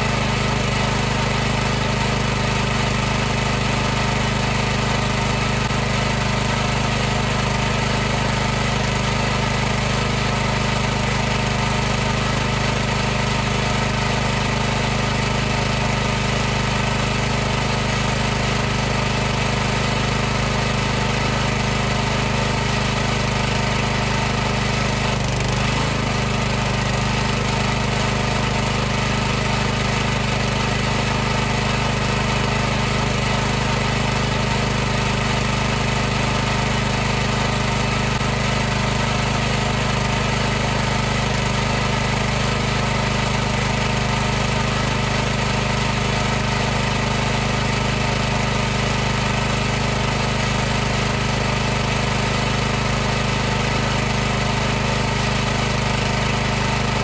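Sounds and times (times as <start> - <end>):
pressure washer running: 0.0 - 57.0.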